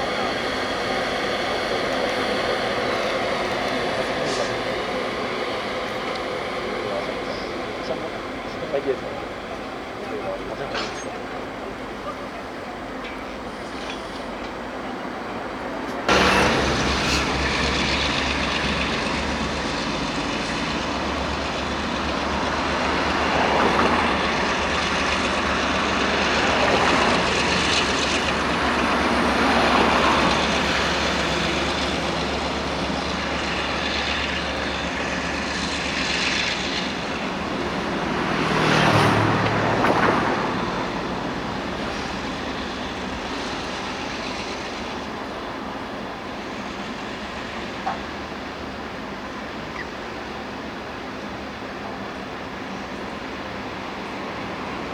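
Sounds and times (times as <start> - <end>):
locomotive engine drone: 0.0 - 54.9
wheel and rail noise: 0.0 - 54.9.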